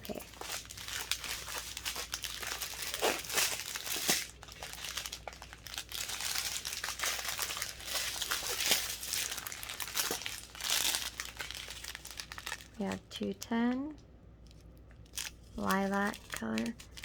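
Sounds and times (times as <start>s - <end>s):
plastic bags crinkling: 0.0s - 13.0s, 15.0s - 17.0s.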